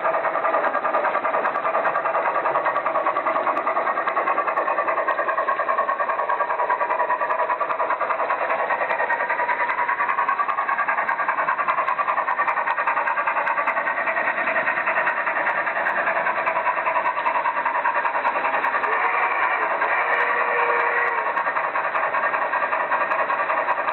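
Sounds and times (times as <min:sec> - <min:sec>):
model train motor whir: 0:00.0 - 0:23.9.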